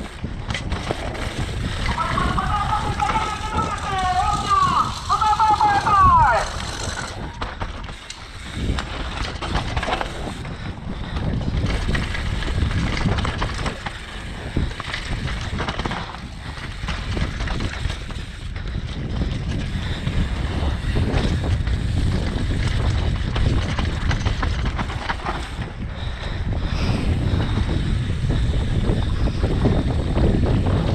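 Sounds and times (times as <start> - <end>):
bike rattles and knocks: 0.0 - 30.9
tyres rumbling on dirt: 0.0 - 30.9
wind on microphone: 0.0 - 30.9.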